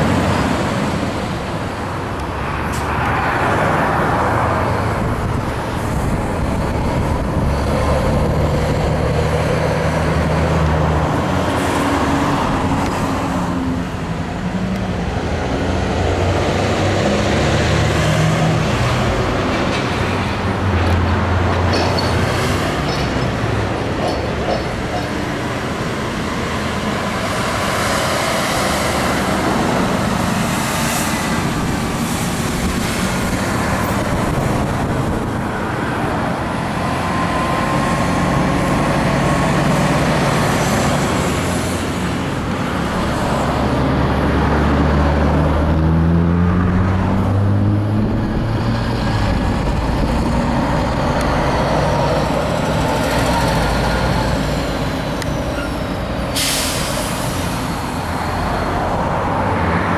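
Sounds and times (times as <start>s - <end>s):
diesel trucks driving past: 0.0s - 59.9s
truck engine accelerating: 0.0s - 59.9s.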